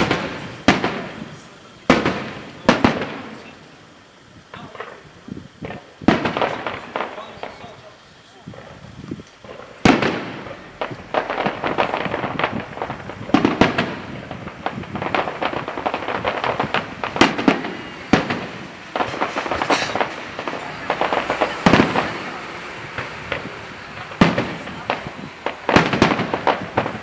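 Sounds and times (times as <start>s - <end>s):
fireworks bangs: 0.0s - 27.0s
fireworks crackling: 0.0s - 27.0s.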